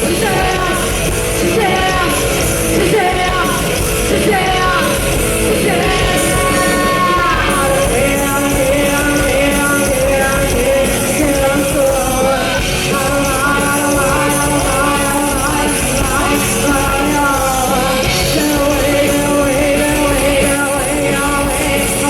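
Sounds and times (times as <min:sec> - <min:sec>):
rock band playing: 0:00.0 - 0:22.0
woman singing: 0:00.0 - 0:22.0.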